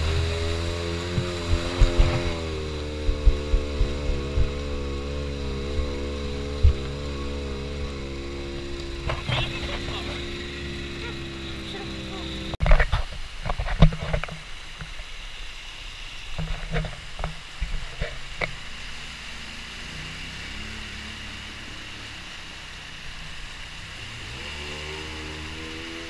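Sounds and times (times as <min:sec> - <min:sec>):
atv engine running: 0:00.0 - 0:12.6, 0:16.5 - 0:26.0
stream water rushing: 0:00.0 - 0:26.0.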